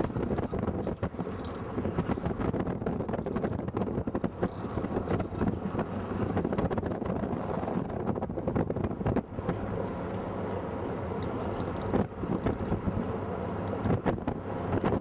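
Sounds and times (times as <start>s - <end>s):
car engine and road rumble: 0.0s - 15.0s
wind buffeting microphone: 0.0s - 15.0s.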